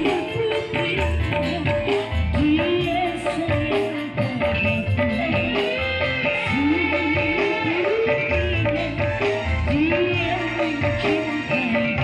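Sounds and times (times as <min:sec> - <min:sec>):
drum and tabla-like percussion: 0:00.0 - 0:12.0
electronic keyboard: 0:00.0 - 0:12.0
woman singing into microphone: 0:00.0 - 0:12.0.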